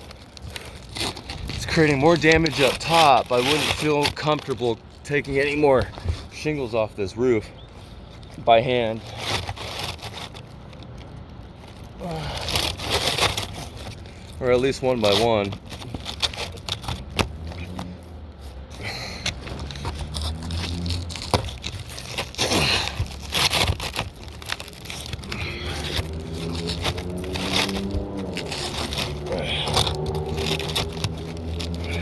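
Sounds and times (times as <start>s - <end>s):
scraping and crackling of shingles: 0.0s - 32.0s.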